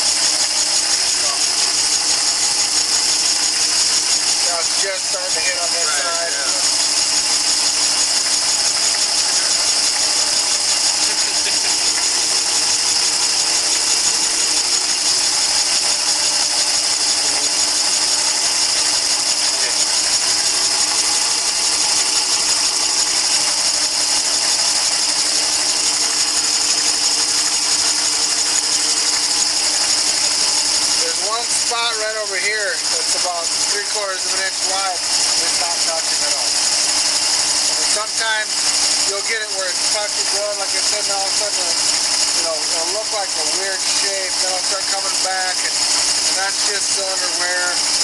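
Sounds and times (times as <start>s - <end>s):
boring bar high-pitched whir: 0.0s - 48.0s
fine rapid ticking of cutter: 0.0s - 48.0s.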